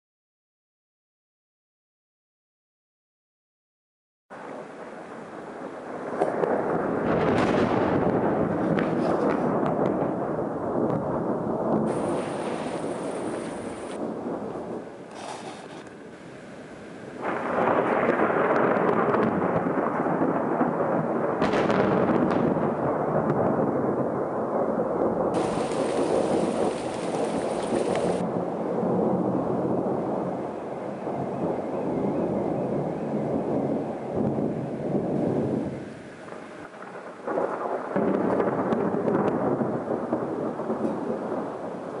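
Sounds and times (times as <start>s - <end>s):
rain: 4.3s - 42.0s
thunder rumbling: 4.3s - 42.0s
sharp thunder crack: 4.5s - 42.0s.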